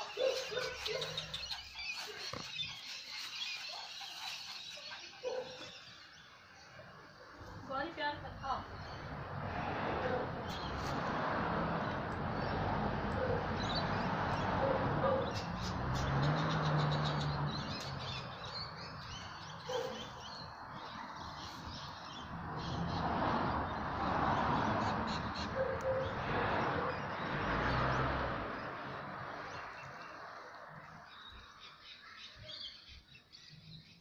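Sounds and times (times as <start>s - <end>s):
birds chirping and calling: 0.0s - 7.6s, 11.8s - 34.0s
outdoor noise: 0.0s - 34.0s.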